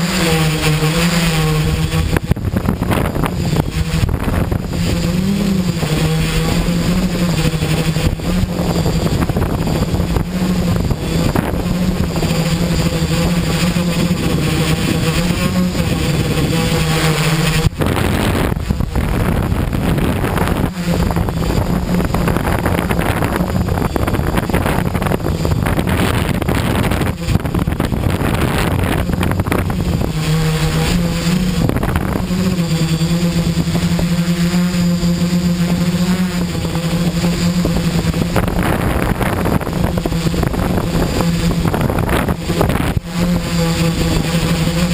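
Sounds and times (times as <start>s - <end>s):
quadcopter motors humming: 0.0s - 44.9s
wind buffeting microphone: 0.0s - 44.9s.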